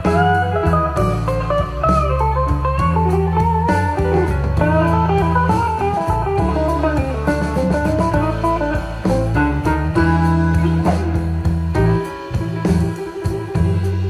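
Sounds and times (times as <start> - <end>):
bass line: 0.0 - 14.0
blues music over loudspeakers: 0.0 - 14.0
electric guitar lead: 0.0 - 14.0.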